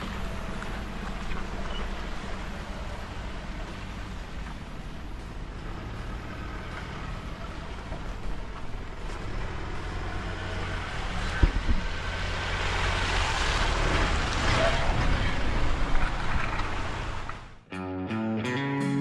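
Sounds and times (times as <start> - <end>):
vehicle engine droning: 0.0 - 17.6.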